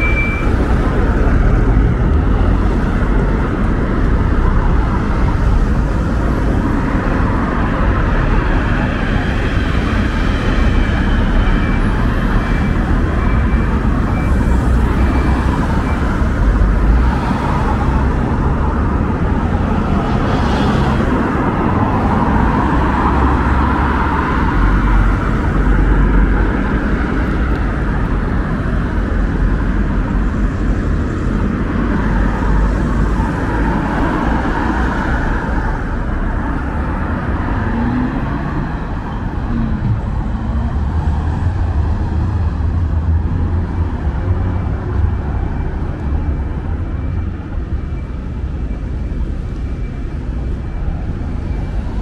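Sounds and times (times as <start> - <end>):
cars driving past: 0.0 - 52.0.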